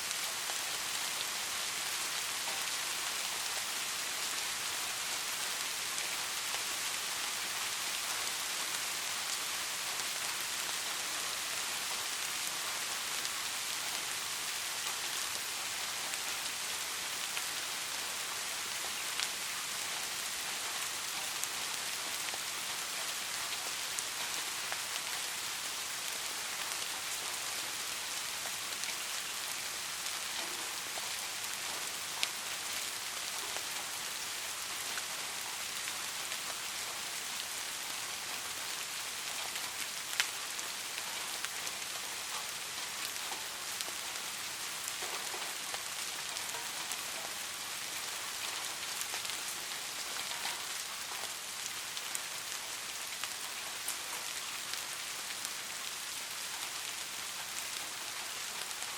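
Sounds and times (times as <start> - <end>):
soft rain falling: 0.0 - 58.9.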